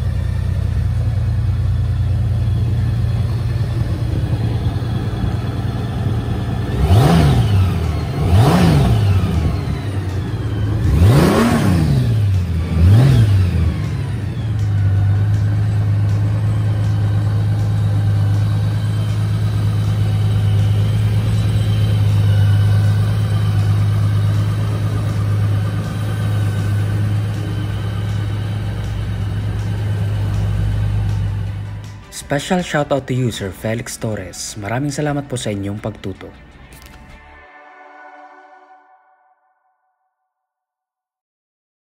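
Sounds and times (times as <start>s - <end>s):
motorcycle engine revving and idling: 0.0s - 33.6s.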